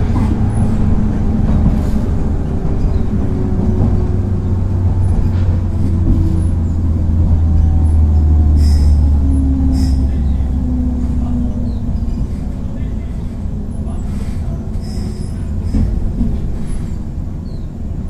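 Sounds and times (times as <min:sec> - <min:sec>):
electric train low hum: 0:00.0 - 0:18.0.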